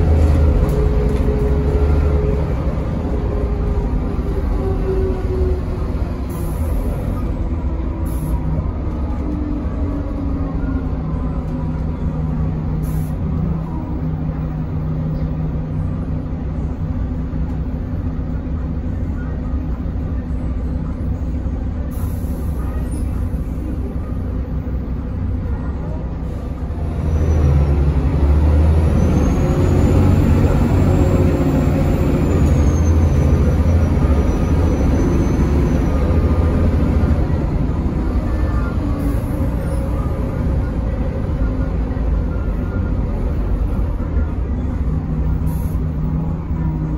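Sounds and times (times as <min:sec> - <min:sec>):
bus engine running: 0:00.0 - 0:46.9.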